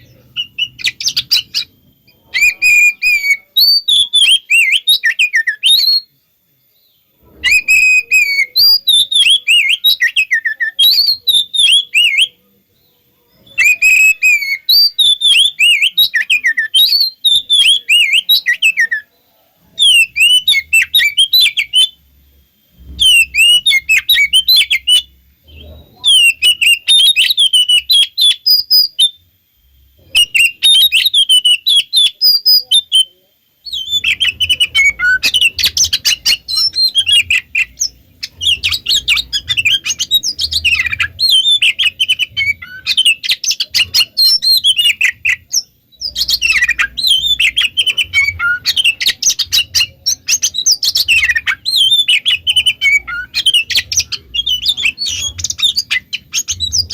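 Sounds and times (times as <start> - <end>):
bird singing chattering song: 0.0 - 22.1, 22.7 - 29.3, 30.0 - 56.9.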